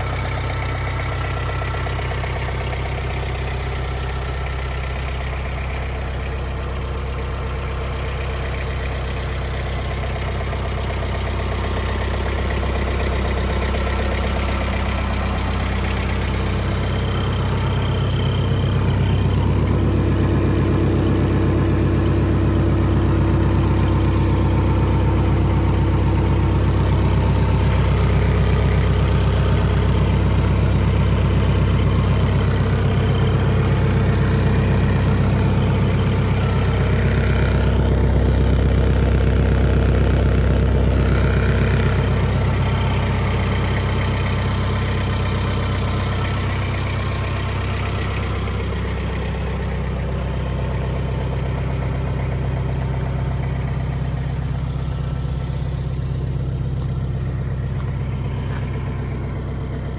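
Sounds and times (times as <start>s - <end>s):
diesel tractor engine idling: 0.0s - 59.9s.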